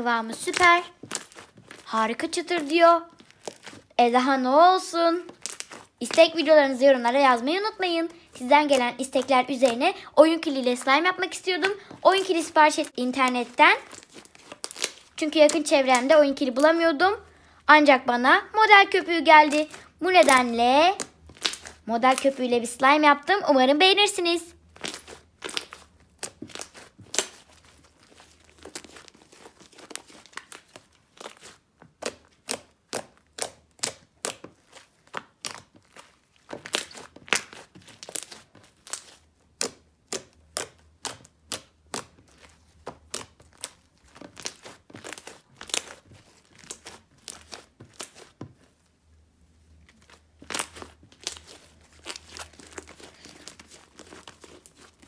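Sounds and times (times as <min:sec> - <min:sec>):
crunchy slime crackling and popping: 0:00.0 - 0:17.1, 0:18.8 - 0:22.9, 0:24.5 - 0:48.8, 0:49.8 - 0:55.0.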